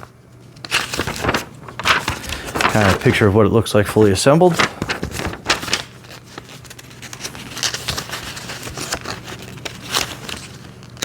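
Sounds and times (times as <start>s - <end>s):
steady low hum: 0.0s - 11.0s
paper pages turning: 0.5s - 11.0s.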